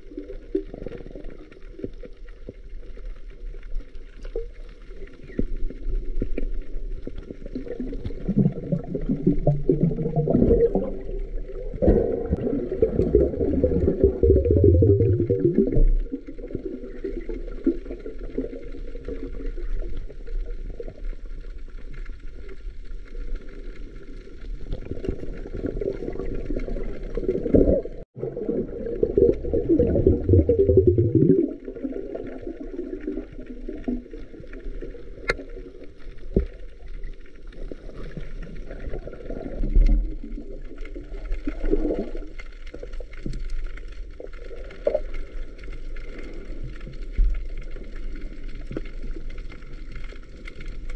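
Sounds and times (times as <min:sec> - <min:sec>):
underwater rumble and gurgling: 0:00.0 - 0:50.9.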